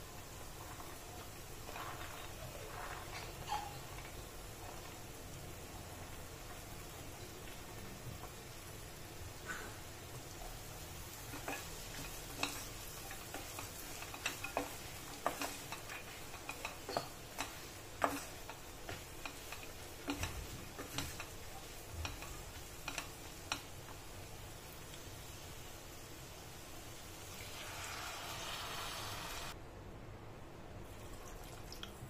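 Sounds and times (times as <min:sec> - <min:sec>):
faint sizzle: 0:00.0 - 0:29.6.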